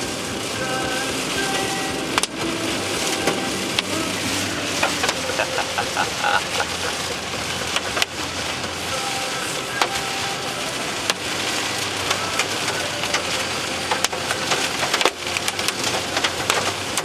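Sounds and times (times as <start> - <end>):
rain hitting a car: 0.0 - 17.0
raindrops ticking on car: 0.0 - 17.0
road noise inside car: 0.0 - 17.0.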